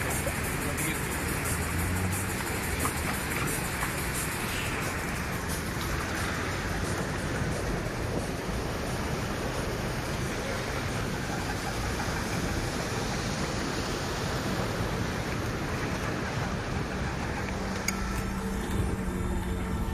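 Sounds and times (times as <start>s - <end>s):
heavy rain pouring: 0.0s - 19.9s.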